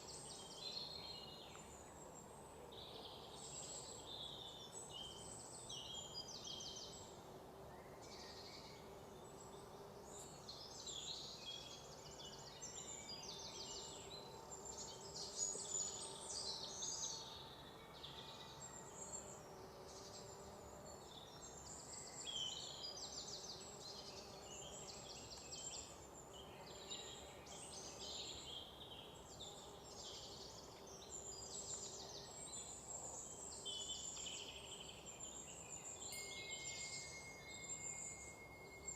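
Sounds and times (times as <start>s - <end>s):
faint steady background hiss: 0.0s - 38.9s
forest birds singing and calling: 0.0s - 38.9s.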